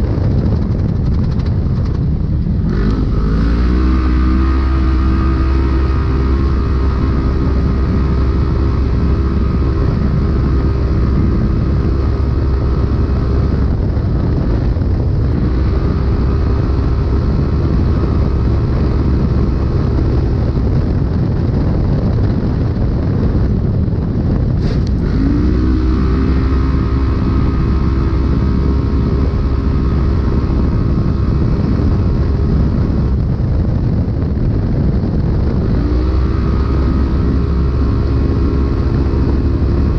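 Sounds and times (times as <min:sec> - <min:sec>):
loud engine running: 0:00.0 - 0:39.9
rumble and rattle from terrain: 0:00.0 - 0:39.9.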